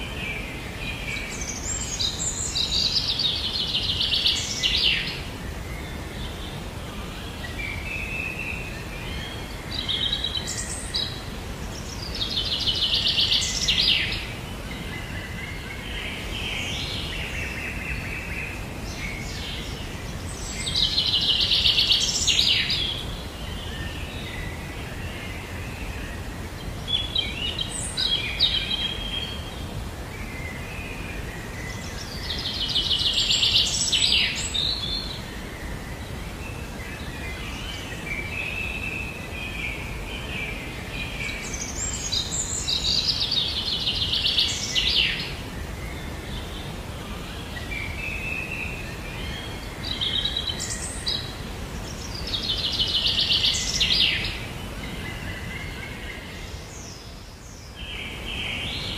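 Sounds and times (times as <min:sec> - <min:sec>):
low background hiss: 0:00.0 - 0:58.9
songbirds singing: 0:00.0 - 0:58.9.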